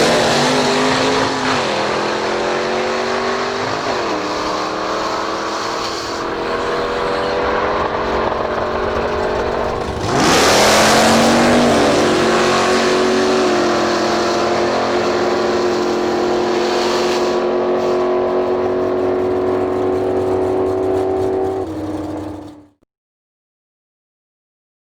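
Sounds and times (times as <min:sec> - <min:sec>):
race car engine at full throttle: 0:00.0 - 0:22.8.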